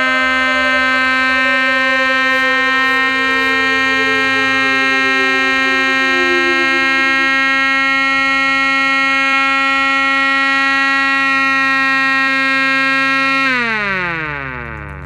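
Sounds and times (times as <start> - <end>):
siren high tone: 0.0 - 14.7.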